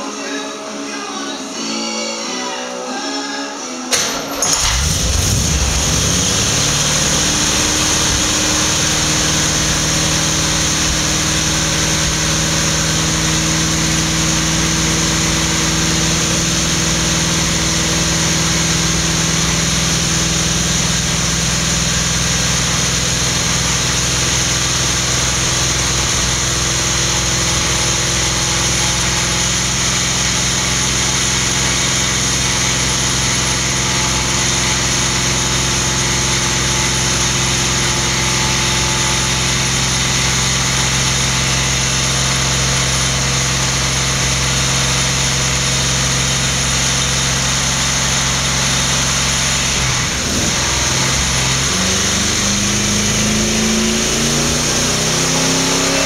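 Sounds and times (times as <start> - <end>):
engine running steadily: 4.0 - 56.0.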